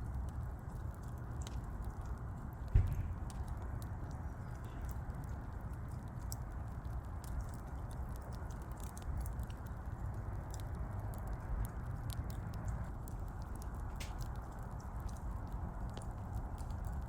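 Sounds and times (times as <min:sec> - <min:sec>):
burning wood crackling: 0:00.0 - 0:17.0
steady low rumble: 0:00.0 - 0:17.0.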